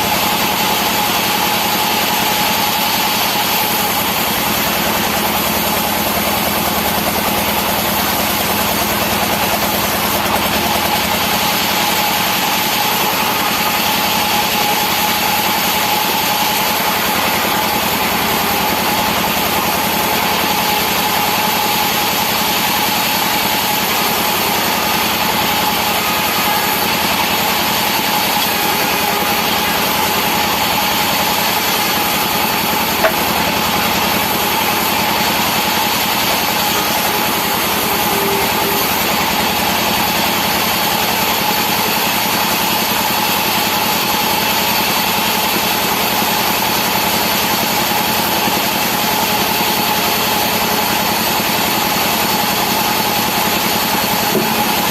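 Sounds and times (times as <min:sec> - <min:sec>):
constant machine whine: 0:00.0 - 0:54.9
sawmill machinery droning: 0:00.0 - 0:54.9.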